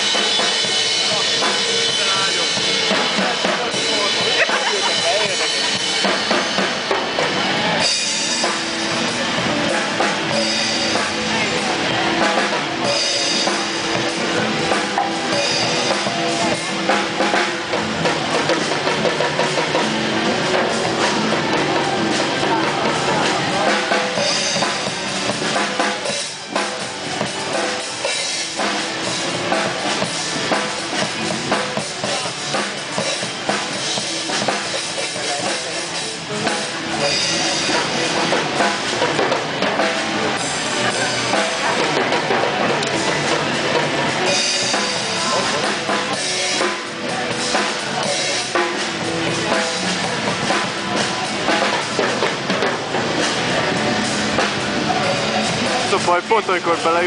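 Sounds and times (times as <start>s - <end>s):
drum kit beat: 0.0s - 57.0s.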